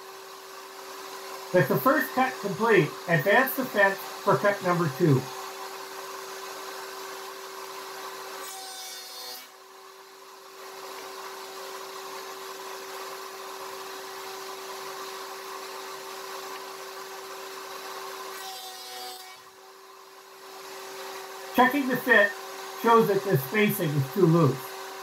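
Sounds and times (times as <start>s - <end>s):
router whining: 0.0s - 9.6s, 10.3s - 25.0s
router bit cutting wood: 0.1s - 9.6s, 10.6s - 25.0s.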